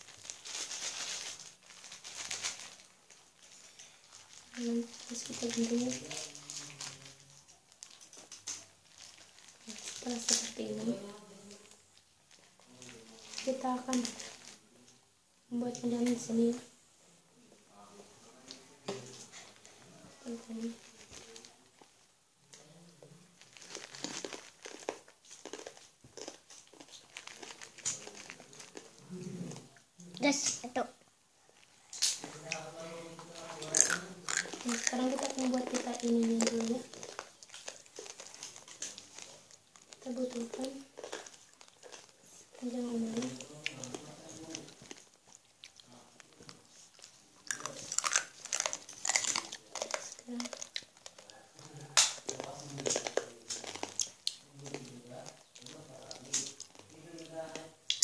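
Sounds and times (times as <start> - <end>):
ribbon rustling and crinkling: 0.0 - 14.7, 18.2 - 30.8, 31.4 - 58.0.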